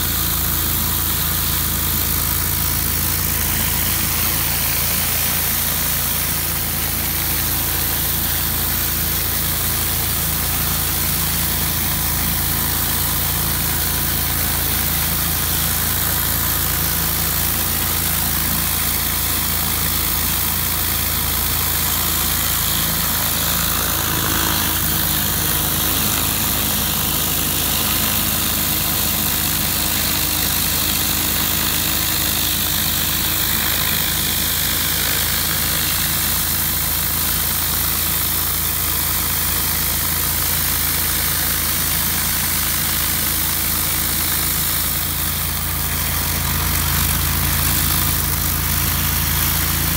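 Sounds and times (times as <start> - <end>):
high-pressure water hissing: 0.0 - 49.9
pressure washer engine running: 0.0 - 49.9.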